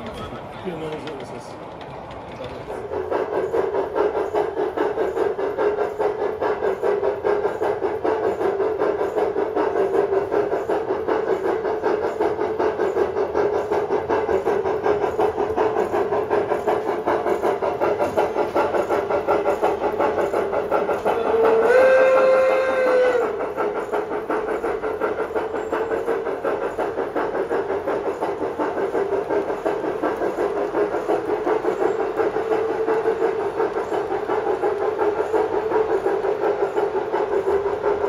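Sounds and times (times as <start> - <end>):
model steam locomotive chuffing: 0.0 - 38.0.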